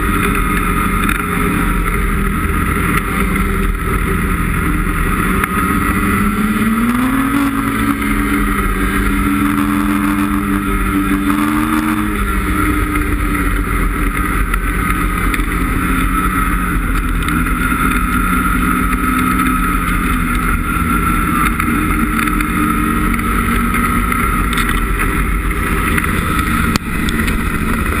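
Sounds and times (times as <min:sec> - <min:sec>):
snowmobile engine running: 0:00.0 - 0:28.0.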